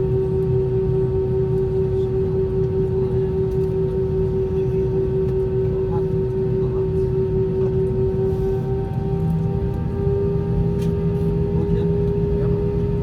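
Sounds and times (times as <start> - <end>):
aircraft engines whining: 0.0 - 13.0.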